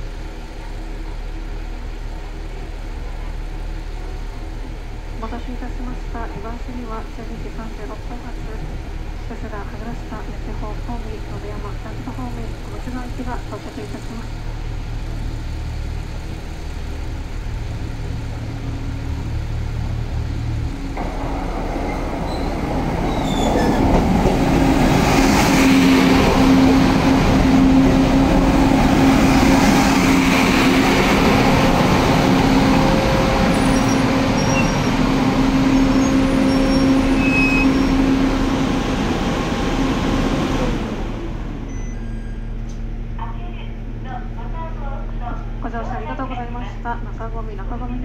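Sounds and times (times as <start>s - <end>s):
railcar humming: 0.0s - 48.0s.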